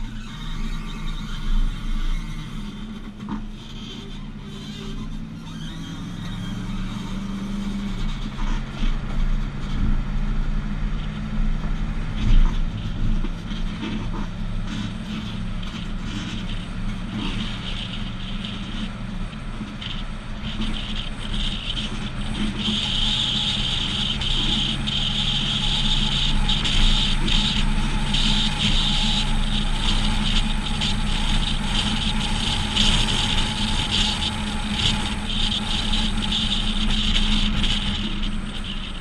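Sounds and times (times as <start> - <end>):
road and wind noise: 0.0 - 39.0
truck engine at road speed: 0.0 - 39.0.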